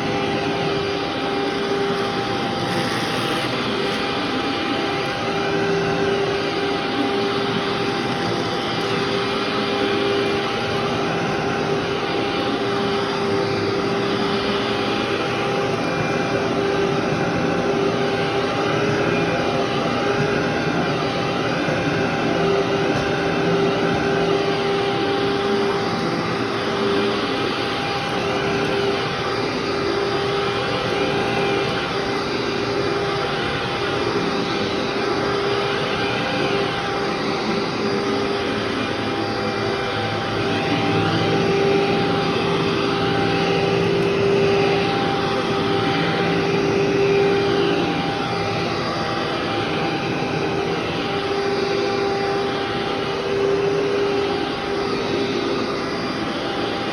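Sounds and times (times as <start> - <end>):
vacuum cleaner on carpet: 0.0 - 56.9.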